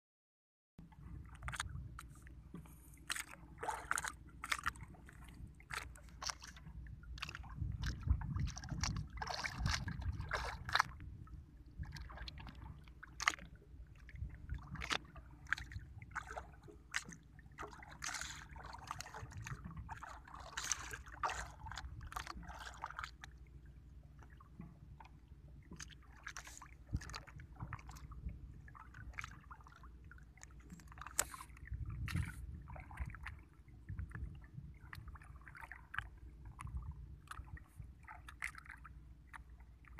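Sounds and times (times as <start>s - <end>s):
knocks and splashes: 0.8s - 39.9s
water sloshing around a boat: 0.8s - 39.9s.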